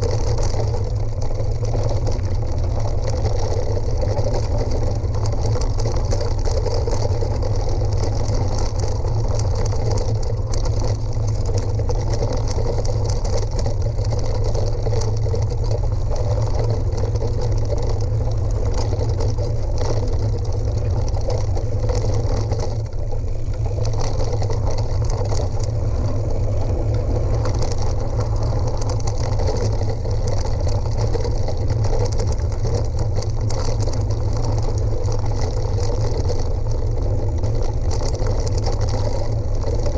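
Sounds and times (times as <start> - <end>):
rumble and rattle on gravel track: 0.0 - 39.9.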